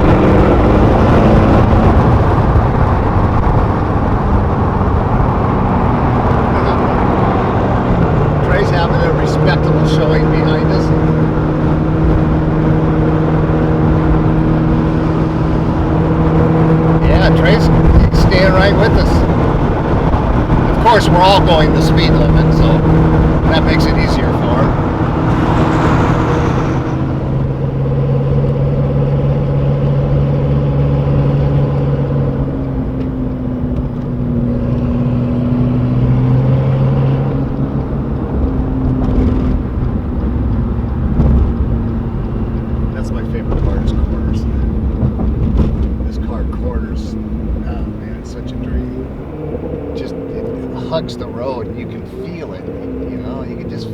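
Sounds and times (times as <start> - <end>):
car engine drone: 0.0 - 53.9
road noise: 0.0 - 53.9.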